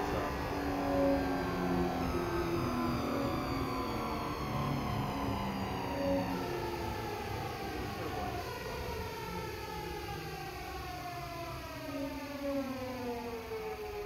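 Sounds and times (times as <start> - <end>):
wheels rumbling on rail: 0.0 - 13.2
train inverter whining: 0.0 - 14.0.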